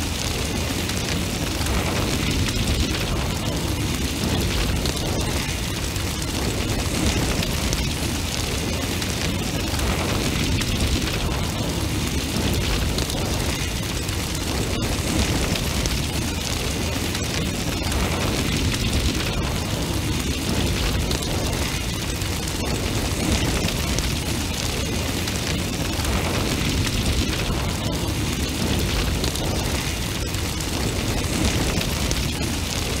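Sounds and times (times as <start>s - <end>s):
bonfire flames rushing: 0.0s - 33.0s
fire crackling and popping: 0.0s - 33.0s.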